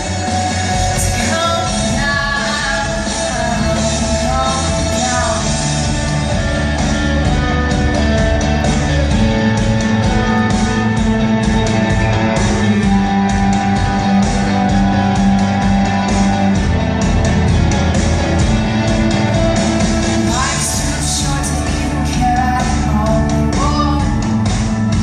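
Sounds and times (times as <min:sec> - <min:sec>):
instrumental rock music: 0:00.0 - 0:25.0.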